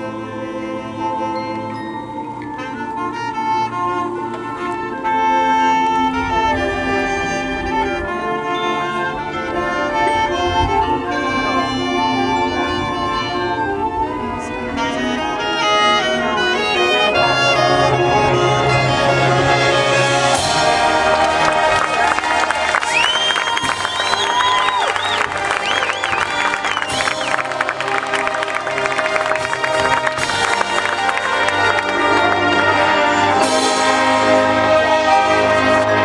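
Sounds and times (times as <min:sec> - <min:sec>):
brass line playing: 0:00.0 - 0:36.0
percussion: 0:00.0 - 0:36.0.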